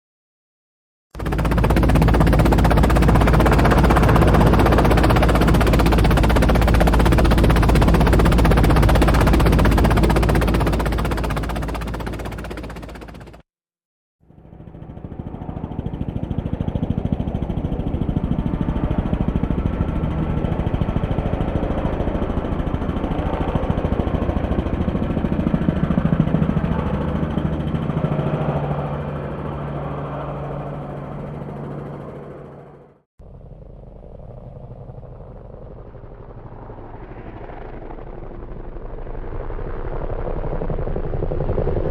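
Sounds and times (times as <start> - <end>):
helicopter rotor blades chopping: 1.2 - 13.5, 14.4 - 41.9.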